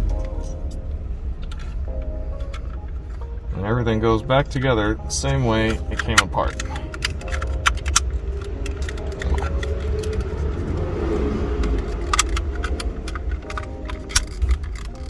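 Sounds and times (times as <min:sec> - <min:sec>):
plastic parts clicking and rattling: 0:01.4 - 0:03.3, 0:04.4 - 0:15.0.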